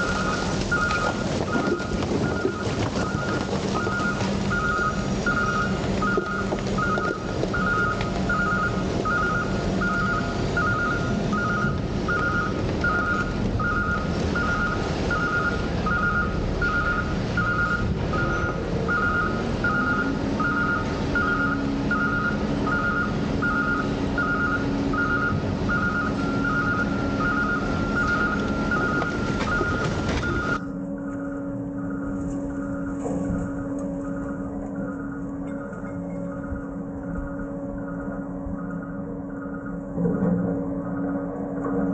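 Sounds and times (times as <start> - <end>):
diesel engine running: 0.0 - 41.9
garbage truck machinery noise: 0.0 - 41.9
reversing alarm beeping: 0.0 - 41.9.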